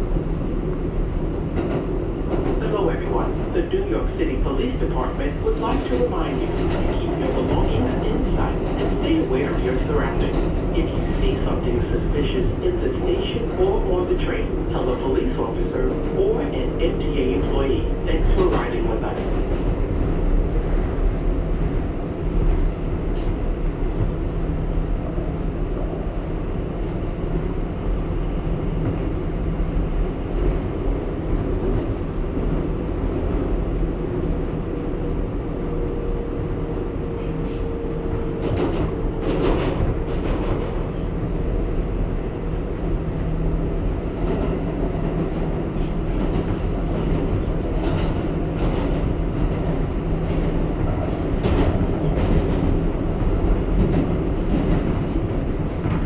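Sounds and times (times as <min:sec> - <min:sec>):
subway train running on track: 0:00.0 - 0:56.0.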